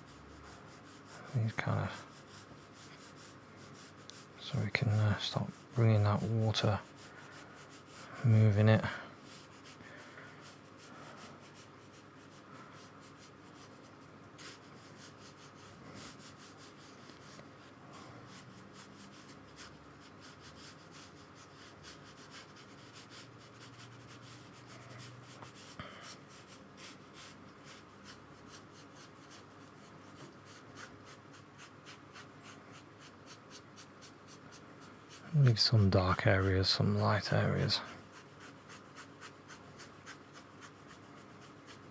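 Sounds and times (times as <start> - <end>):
paintbrush strokes on paper: 0.0 - 41.9.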